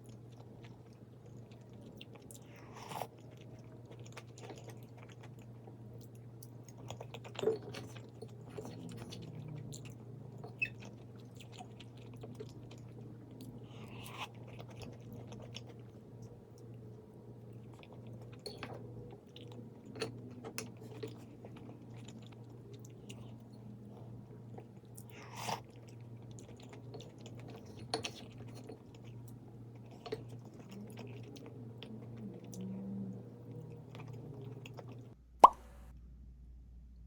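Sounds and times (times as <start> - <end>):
person chewing food: 0.0 - 35.7.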